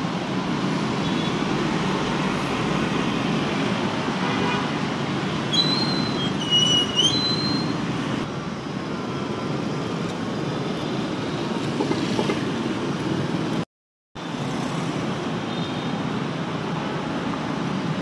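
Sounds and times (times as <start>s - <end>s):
street traffic passing: 0.0s - 18.0s.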